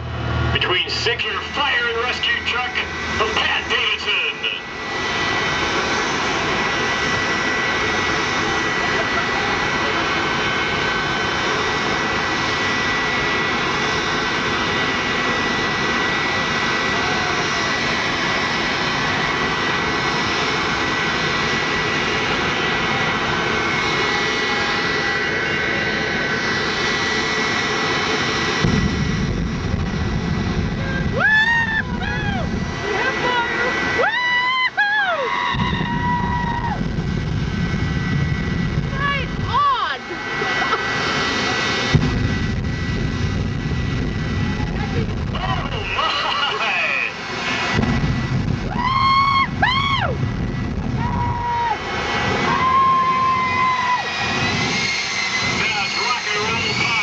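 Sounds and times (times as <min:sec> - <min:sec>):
afterburner deep rumble: 0:00.0 - 0:57.0
jet engine whining: 0:00.0 - 0:57.0.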